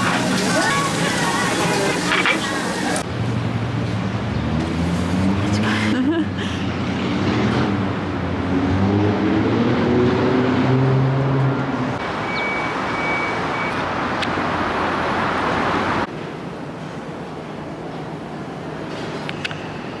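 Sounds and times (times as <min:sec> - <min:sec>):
vehicle engines: 0:00.0 - 0:16.1
tyres on a city street: 0:00.0 - 0:20.0.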